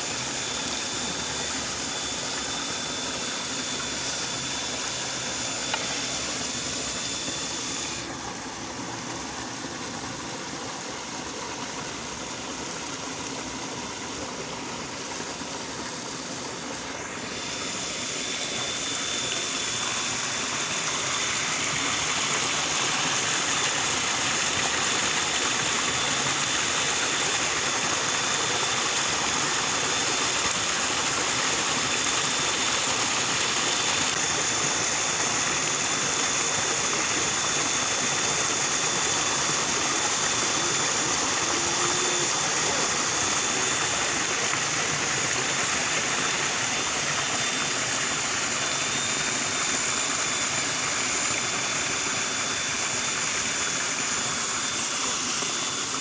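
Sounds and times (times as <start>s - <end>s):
thin high whine: 0.0s - 56.0s.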